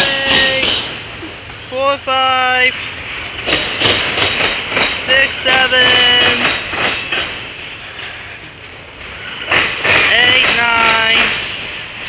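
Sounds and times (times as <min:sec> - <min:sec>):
freight train wheels clacking: 0:00.0 - 0:12.0.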